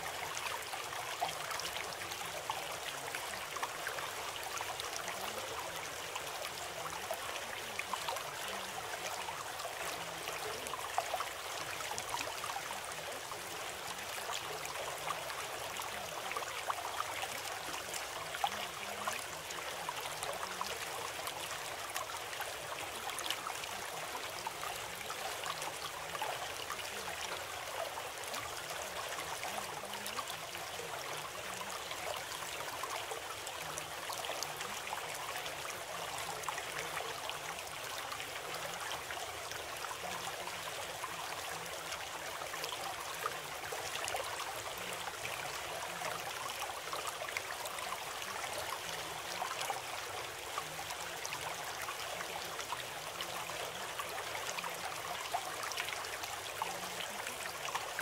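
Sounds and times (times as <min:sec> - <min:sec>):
stream water rushing: 0:07.4 - 0:58.0.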